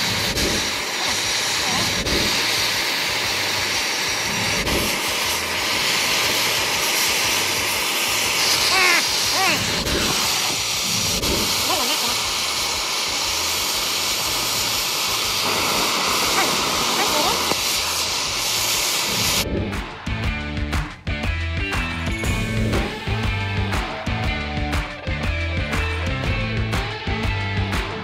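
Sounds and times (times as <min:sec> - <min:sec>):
gas torch flames hissing: 0:00.0 - 0:20.9, 0:21.8 - 0:27.7.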